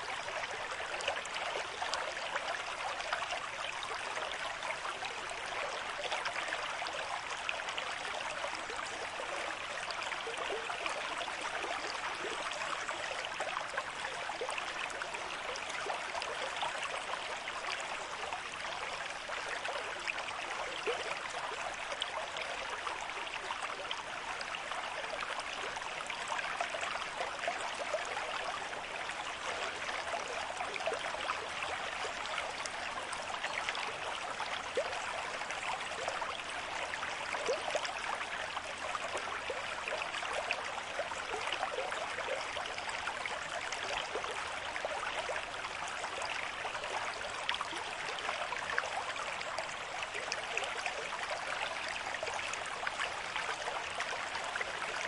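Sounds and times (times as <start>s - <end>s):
stream running over stones: 0.0s - 55.0s.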